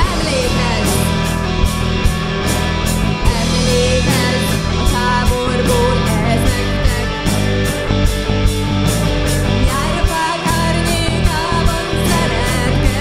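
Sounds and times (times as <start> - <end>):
drums beating: 0.0 - 13.0
rock band playing live: 0.0 - 13.0.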